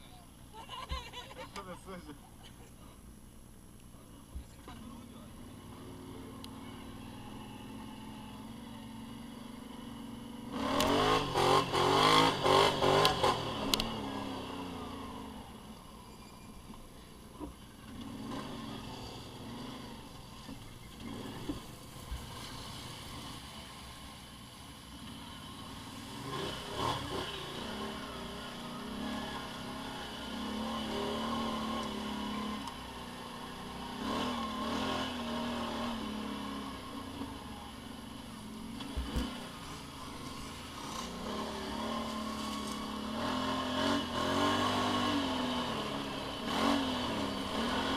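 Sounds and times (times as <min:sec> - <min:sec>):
motorcycle engines revving: 0:04.6 - 0:16.8, 0:17.4 - 0:47.9.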